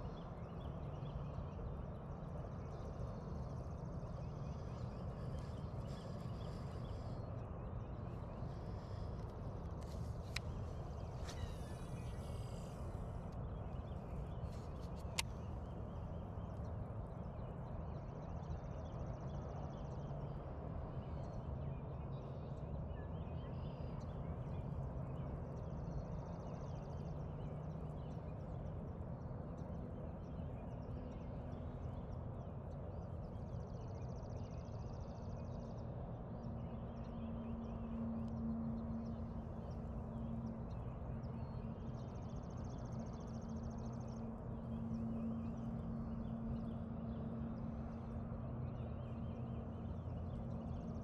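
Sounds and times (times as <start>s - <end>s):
steady low rumble: 0.0s - 21.6s, 27.2s - 51.0s.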